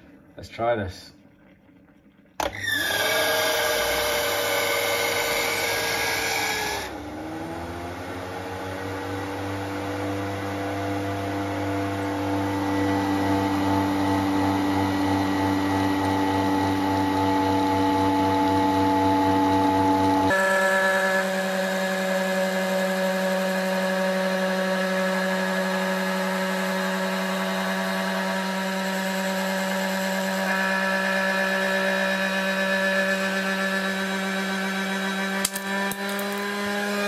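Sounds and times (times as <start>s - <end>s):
coffee machine motor whining: 2.4s - 37.0s.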